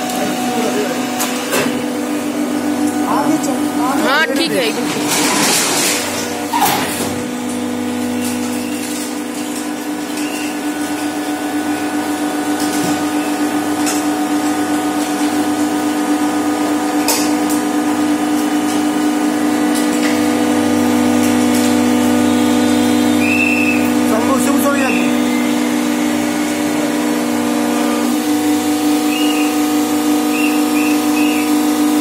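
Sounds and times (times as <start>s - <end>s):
hydraulic pump motor humming: 0.0s - 32.0s.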